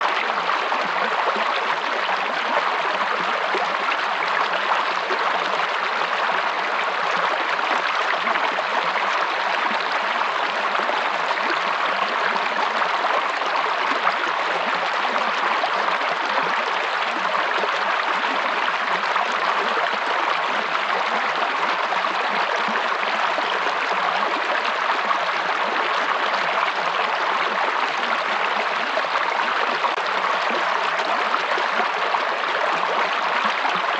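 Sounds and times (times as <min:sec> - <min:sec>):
river water over rocks: 0:00.0 - 0:33.9.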